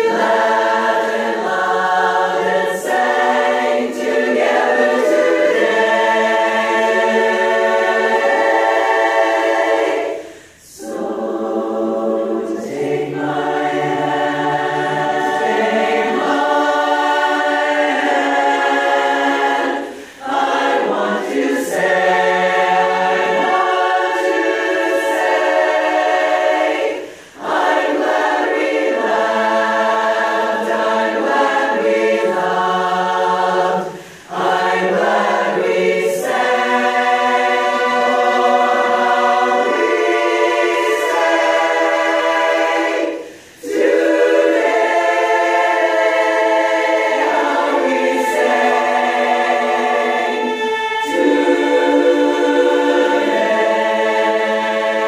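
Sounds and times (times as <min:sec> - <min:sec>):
women singing a cappella harmony: 0:00.0 - 0:55.0.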